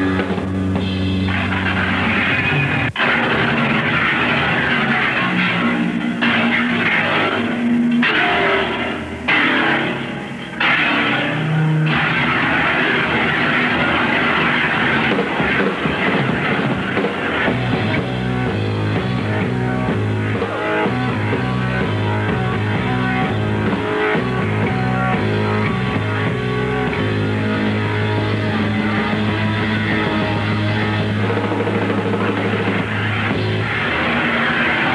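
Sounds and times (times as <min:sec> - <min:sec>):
heavy low bass line: 0:00.0 - 0:34.9
keyboard chords: 0:00.0 - 0:34.9
rock band playing live: 0:00.0 - 0:34.9.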